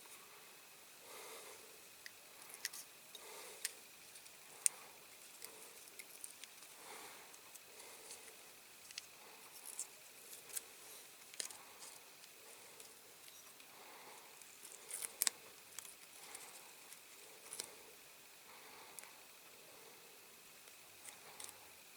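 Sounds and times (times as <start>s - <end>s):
soft breaths: 0.0s - 21.9s.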